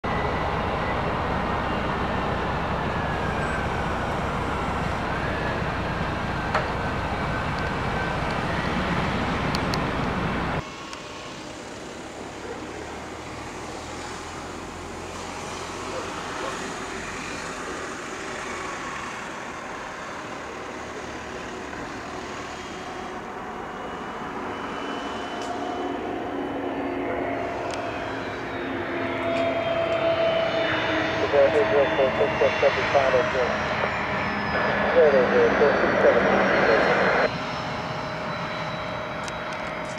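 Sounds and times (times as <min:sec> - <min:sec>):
distant jet engine whine: 0:00.0 - 0:39.9.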